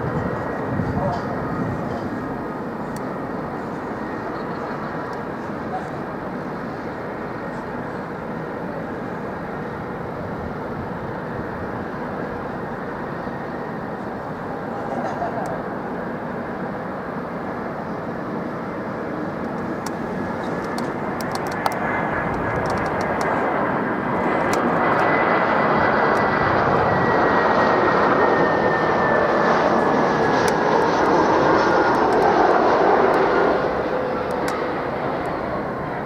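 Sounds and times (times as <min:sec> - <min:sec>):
jet engine roar overhead: 0:00.0 - 0:36.0.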